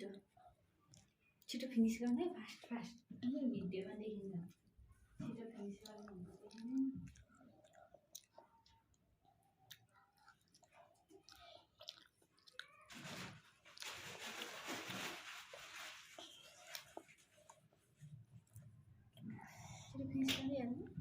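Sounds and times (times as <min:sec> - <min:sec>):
person chewing: 0:00.0 - 0:02.2, 0:05.6 - 0:20.4.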